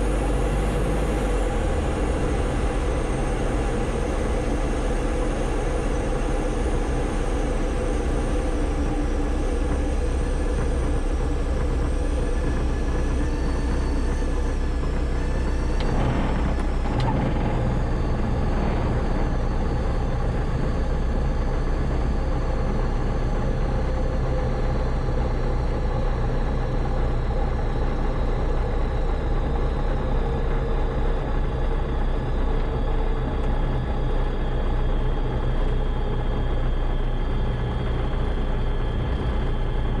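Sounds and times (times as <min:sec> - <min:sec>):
aircraft piston engine running: 0:00.0 - 0:40.0.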